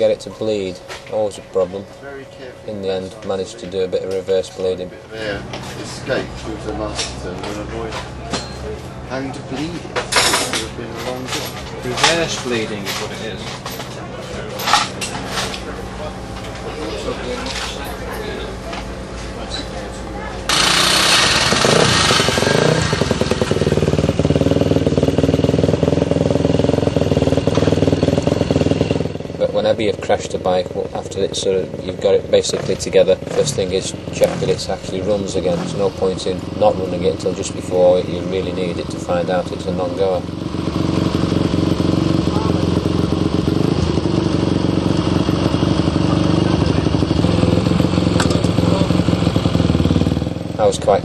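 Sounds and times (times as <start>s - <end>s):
motorcycle engine idling: 5.5s - 51.0s.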